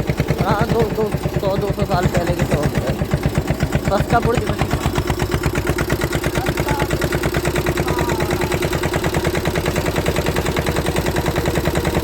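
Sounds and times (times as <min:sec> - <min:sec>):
diesel tractor engine chugging: 0:00.0 - 0:12.0.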